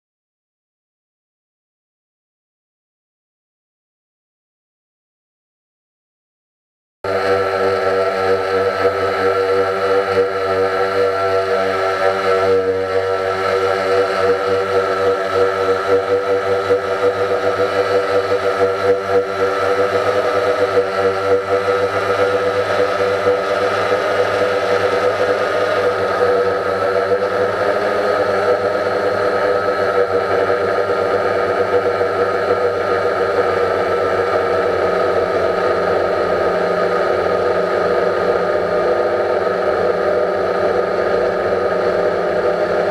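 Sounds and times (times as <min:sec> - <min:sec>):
drone propellers buzzing: 0:07.1 - 0:42.9.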